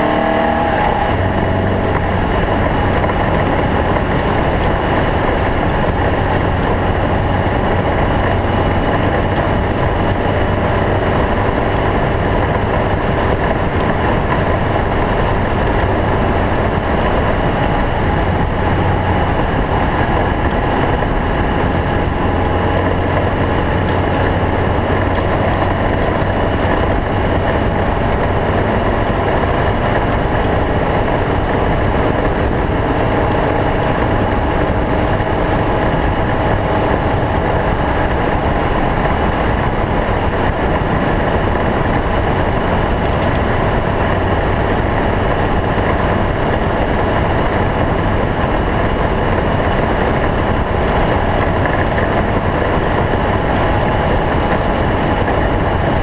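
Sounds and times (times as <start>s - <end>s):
car rattling on rough dirt: 0.0s - 56.0s
race car engine under load: 0.0s - 56.0s.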